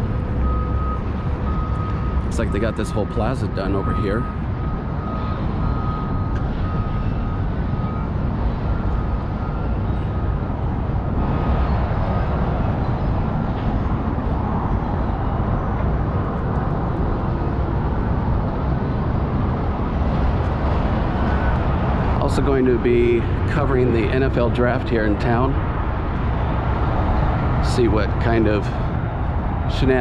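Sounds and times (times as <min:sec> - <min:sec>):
passing cars: 0:00.0 - 0:30.0.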